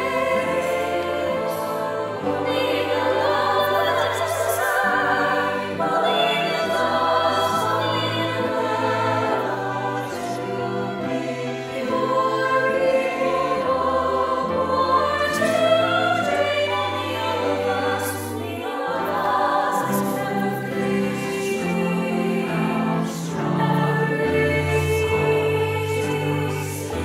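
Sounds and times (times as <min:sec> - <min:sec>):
choir singing in harmony: 0:00.0 - 0:27.0.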